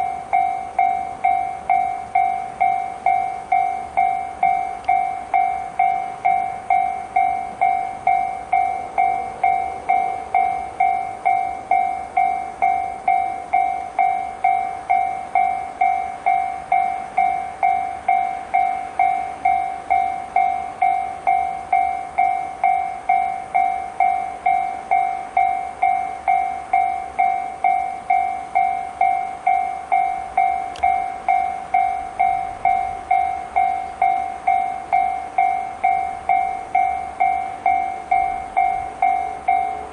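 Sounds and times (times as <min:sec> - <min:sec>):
level crossing alarm dings: 0:00.0 - 0:39.9.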